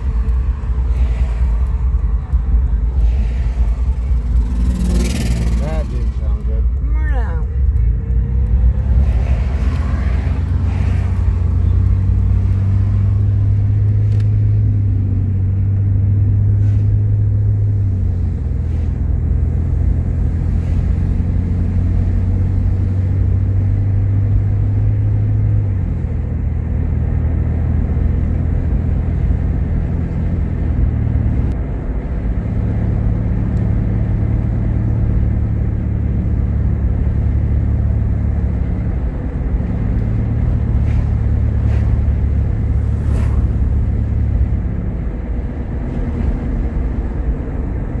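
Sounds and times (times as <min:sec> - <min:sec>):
car engine and road noise: 0:00.0 - 0:48.0.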